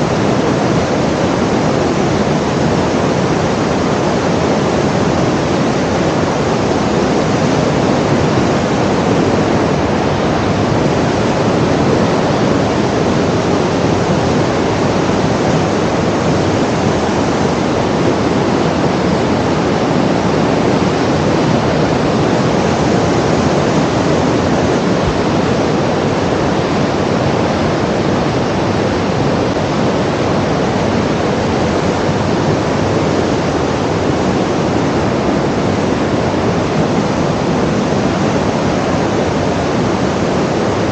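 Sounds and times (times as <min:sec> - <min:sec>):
steady rushing noise: 0:00.0 - 0:40.9.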